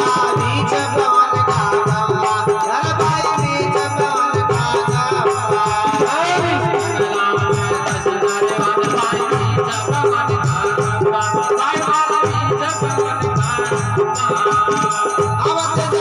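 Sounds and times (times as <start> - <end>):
hand drum rhythm: 0.0 - 16.0.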